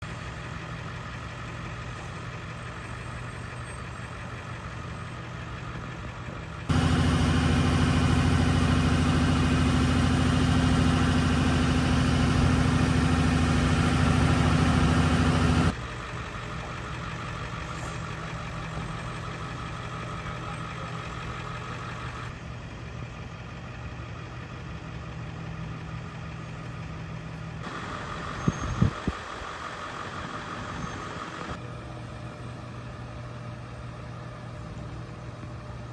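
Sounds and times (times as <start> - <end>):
engines idling: 0.0 - 35.9.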